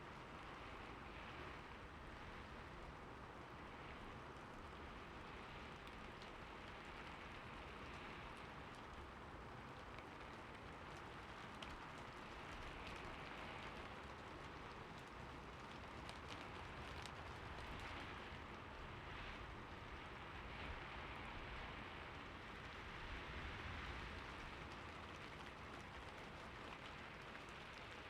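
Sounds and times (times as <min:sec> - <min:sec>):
light rain hiss: 0:00.0 - 0:28.0
faint raindrop ticks: 0:00.1 - 0:28.0.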